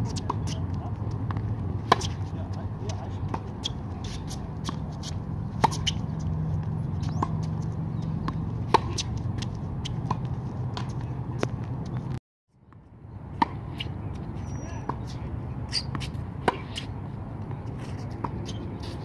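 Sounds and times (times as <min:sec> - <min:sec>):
tennis ball hit by racquets: 0:00.0 - 0:12.0, 0:13.4 - 0:17.0.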